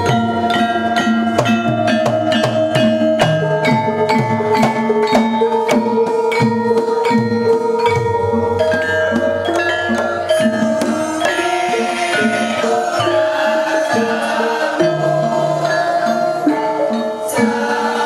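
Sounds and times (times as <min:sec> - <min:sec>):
gongs: 0:00.0 - 0:18.0
metallophone keys struck: 0:00.0 - 0:18.0.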